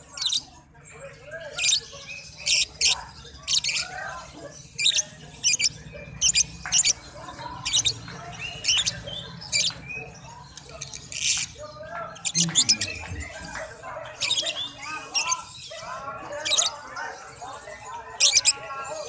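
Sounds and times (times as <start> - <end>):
bird twittering: 1.3 - 19.0.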